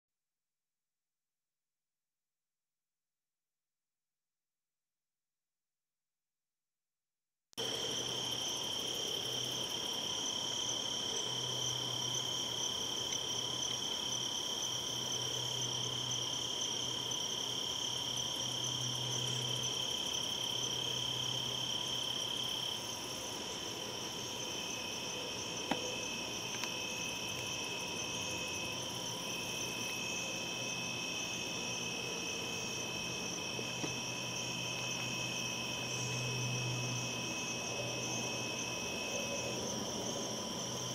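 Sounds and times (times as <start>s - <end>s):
crickets trilling: 7.6s - 40.9s.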